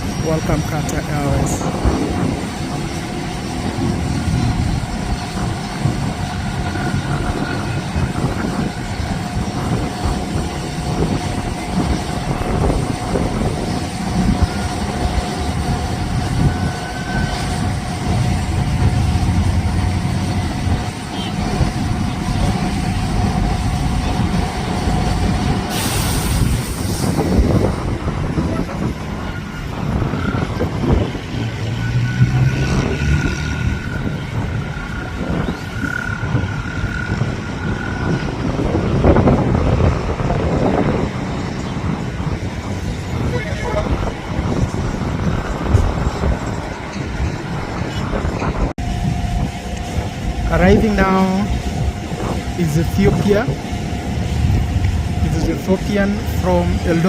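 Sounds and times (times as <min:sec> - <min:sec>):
jet engine low rumble: 0:00.0 - 0:31.9, 0:32.5 - 0:57.0.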